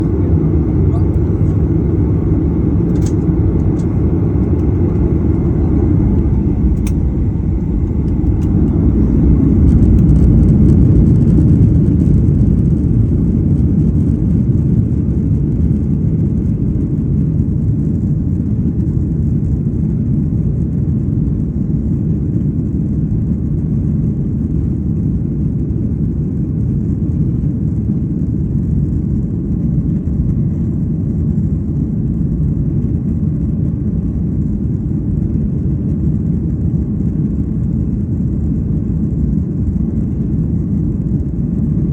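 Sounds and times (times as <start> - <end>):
aircraft engines rumbling: 0.0 - 41.9.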